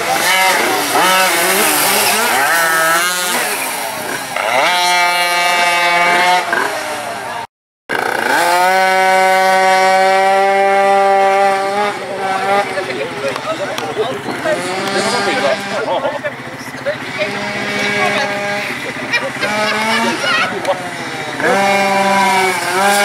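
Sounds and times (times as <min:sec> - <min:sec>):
small two-stroke engine revving: 0:00.0 - 0:23.0.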